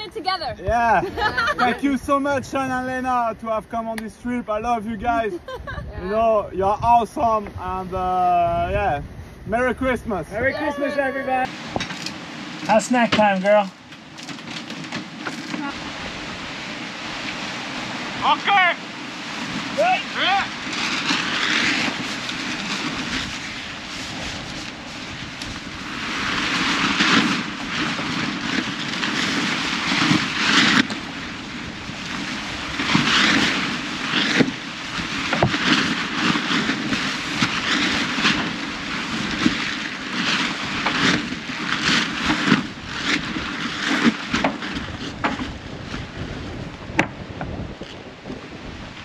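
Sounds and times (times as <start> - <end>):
water rushing along hulls: 0.0 - 49.0
wind buffeting microphone: 0.0 - 49.0.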